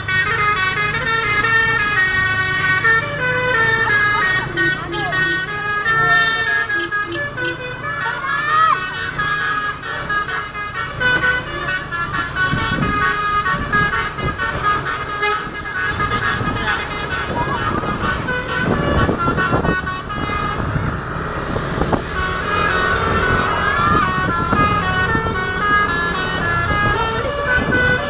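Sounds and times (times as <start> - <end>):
multi-tone bus horn melody: 0.0 - 28.0
rumble of vehicle engines: 0.0 - 28.0.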